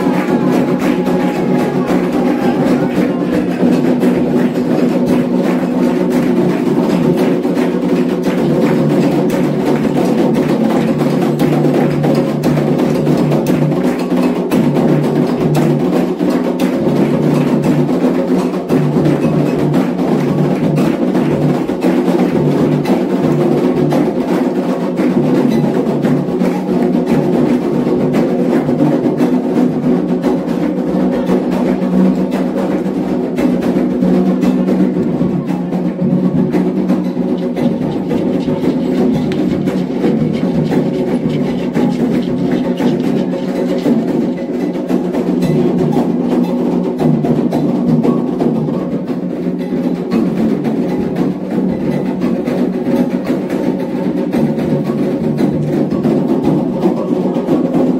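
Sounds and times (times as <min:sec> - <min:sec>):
hand drums playing rhythm: 0:00.0 - 0:57.9.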